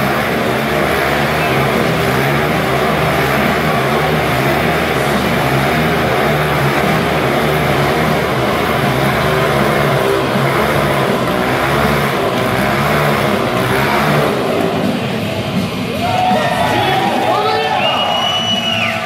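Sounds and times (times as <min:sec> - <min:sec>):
motorcycle engines running hard: 0:00.0 - 0:17.2.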